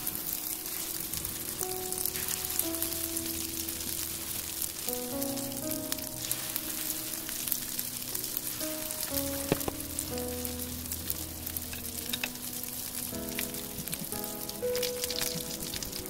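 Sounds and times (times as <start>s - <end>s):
food sizzling in hot oil: 0.0s - 16.0s
soft background music: 0.0s - 16.0s.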